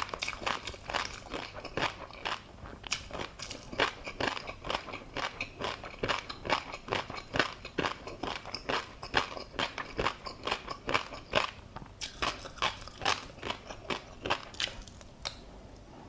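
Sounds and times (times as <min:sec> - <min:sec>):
crunchy chewing: 0:00.0 - 0:15.4.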